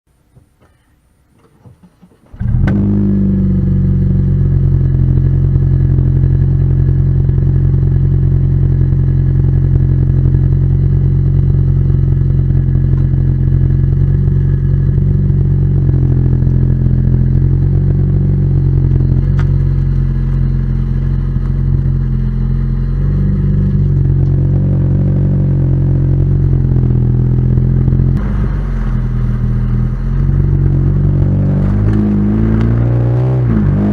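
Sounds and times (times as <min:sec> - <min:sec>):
car engine exhaust while driving: 0:02.3 - 0:33.9.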